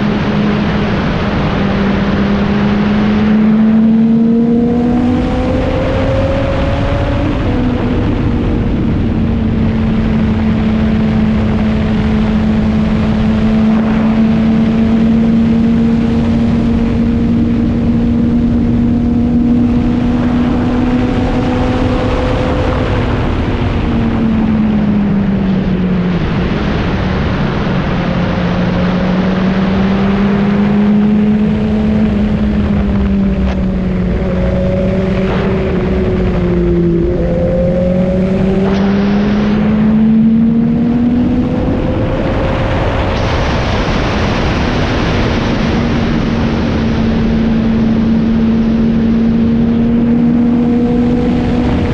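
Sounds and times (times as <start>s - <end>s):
motorcycle engine cruising: 0.0s - 51.9s
wind rush: 0.0s - 51.9s.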